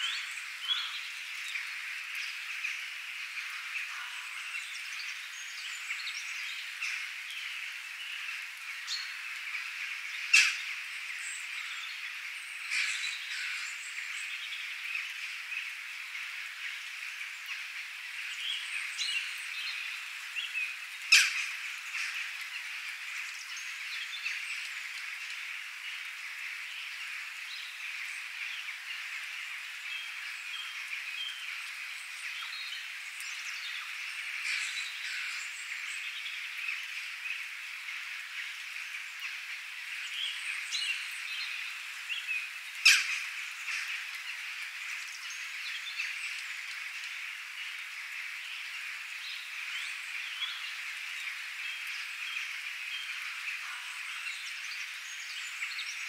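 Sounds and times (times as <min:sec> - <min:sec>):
rain hiss: 0:00.0 - 0:56.0
small birds chirping: 0:00.0 - 0:56.0.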